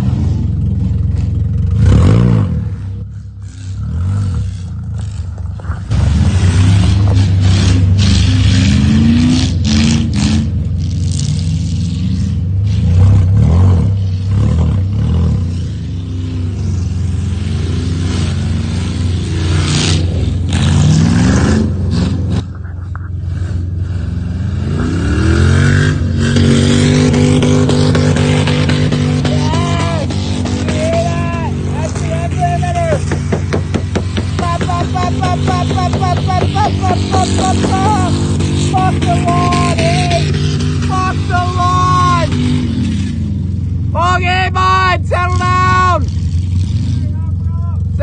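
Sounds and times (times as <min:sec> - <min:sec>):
tires sliding: 0:00.0 - 0:48.0
truck engine revving: 0:00.0 - 0:48.0.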